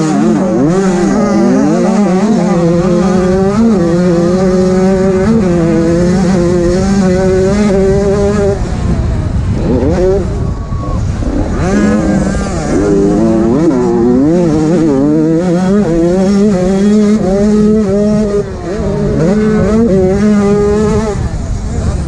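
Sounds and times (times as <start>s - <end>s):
motocross bike engine revving: 0.0s - 22.0s
wind noise: 0.0s - 22.0s.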